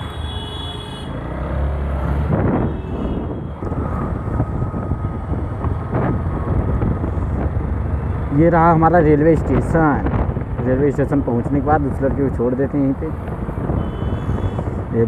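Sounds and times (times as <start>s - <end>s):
traffic: 0.0s - 15.0s
wind rushing on microphone: 2.0s - 15.0s.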